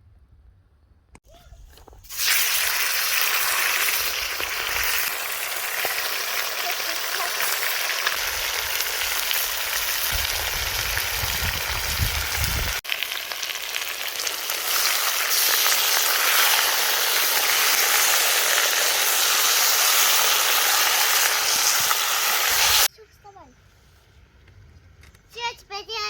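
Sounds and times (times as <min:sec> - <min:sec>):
food sizzling in oil: 0:02.0 - 0:22.9.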